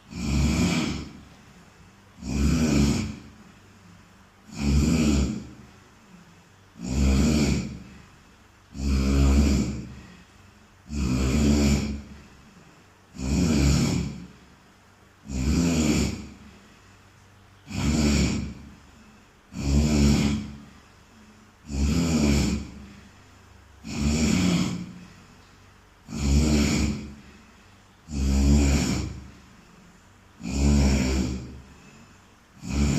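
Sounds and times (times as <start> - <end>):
person snoring: 0.0 - 1.4, 2.1 - 14.4, 15.2 - 17.0, 17.6 - 25.4, 26.0 - 32.9.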